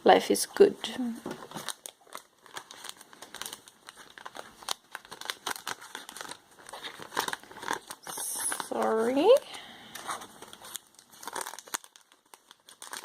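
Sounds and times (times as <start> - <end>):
paper and plastic rustling: 1.1 - 13.0.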